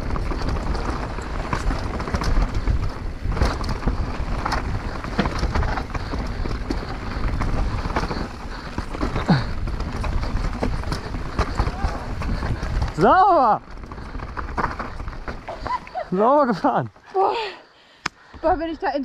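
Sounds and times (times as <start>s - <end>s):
wind buffeting microphone: 0.0s - 16.6s
bike rattling and knocking: 0.0s - 17.2s.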